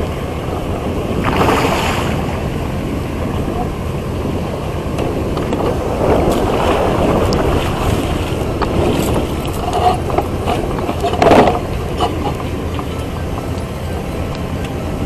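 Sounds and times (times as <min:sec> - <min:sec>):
water lapping around boat: 0:00.0 - 0:15.0
wind buffeting microphone: 0:00.0 - 0:15.0.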